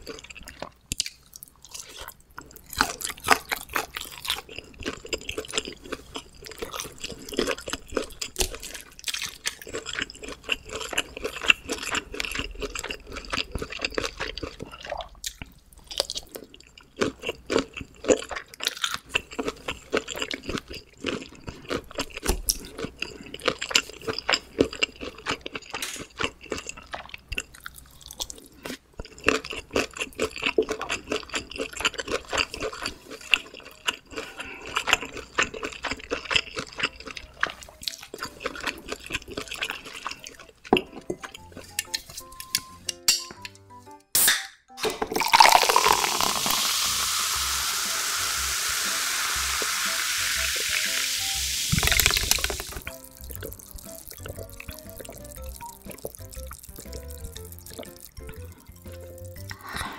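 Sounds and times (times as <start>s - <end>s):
chewing with wet mouth clicks: 0.0s - 42.6s, 51.8s - 59.8s.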